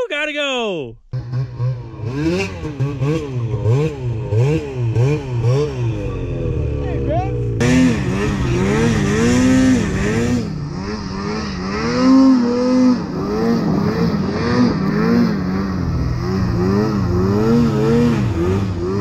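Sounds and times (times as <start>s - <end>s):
snowmobile engine revving: 1.1s - 19.0s.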